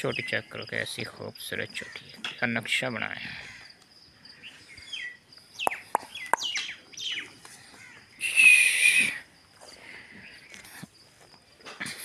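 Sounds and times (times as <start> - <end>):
small birds chirping: 0.0 - 11.2
insect trill: 0.0 - 12.0.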